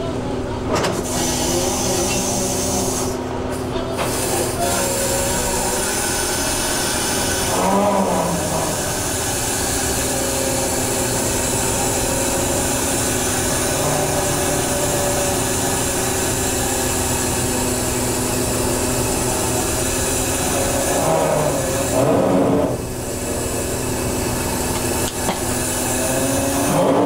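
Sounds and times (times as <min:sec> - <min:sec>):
boat engine and hydraulic gear droning: 0:00.0 - 0:27.0.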